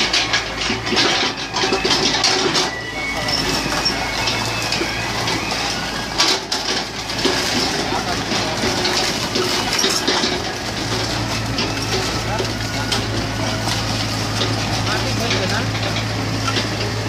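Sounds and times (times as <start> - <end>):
diesel engine humming: 0.0 - 17.0
machine knocking: 0.0 - 17.0.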